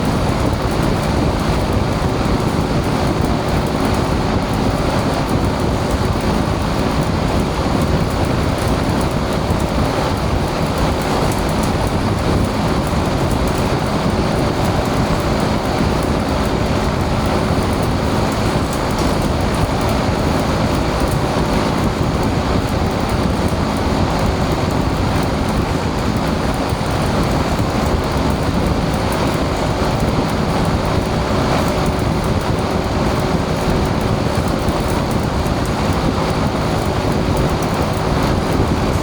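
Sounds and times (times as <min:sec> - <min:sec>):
welding arc crackling and hissing: 0:00.0 - 0:39.0.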